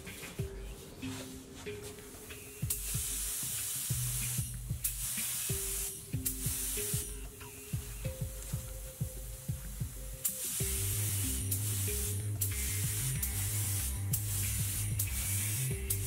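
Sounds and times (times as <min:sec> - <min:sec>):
background music with steady beat: 0:00.0 - 0:16.0
spray gun hissing: 0:02.0 - 0:16.0.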